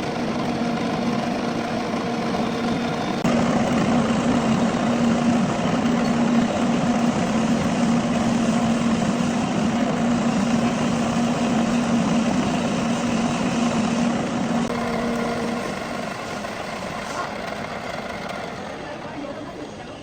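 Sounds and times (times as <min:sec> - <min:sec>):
metal lathe whirring: 0:00.0 - 0:20.0.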